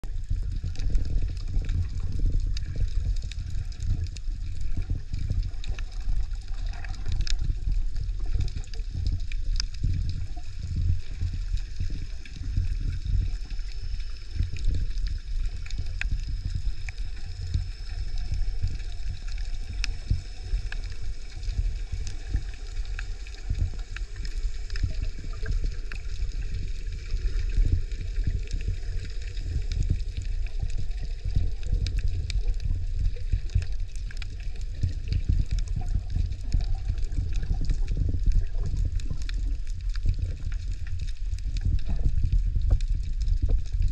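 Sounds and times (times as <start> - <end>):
low rumble: 0.0 - 43.9
muffled underwater water sloshing: 0.0 - 43.9
faint clicks: 5.6 - 7.4, 8.2 - 43.9.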